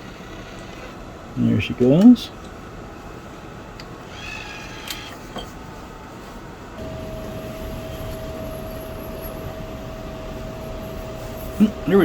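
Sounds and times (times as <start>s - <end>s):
floppy drive whirring hum: 0.0s - 12.0s.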